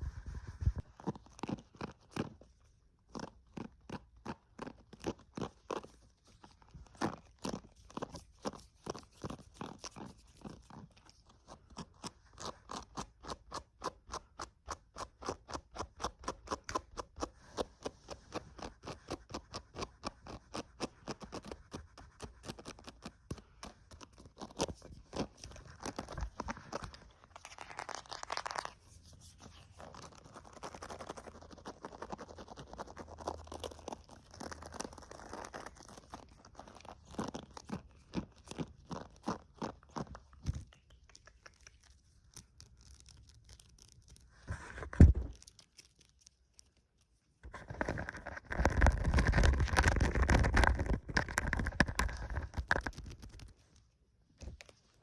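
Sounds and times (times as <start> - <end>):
scratching and rubbing: 0.0 - 55.0.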